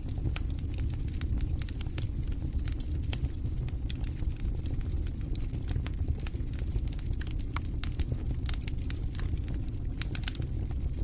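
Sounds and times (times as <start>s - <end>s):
campfire crackling and popping: 0.0s - 11.0s
low steady rumble: 0.0s - 11.0s.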